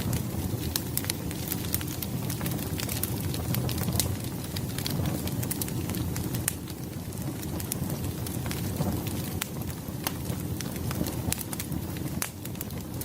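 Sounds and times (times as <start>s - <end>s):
logs crackling and popping: 0.0s - 13.0s
low rumble of flames: 0.0s - 13.0s.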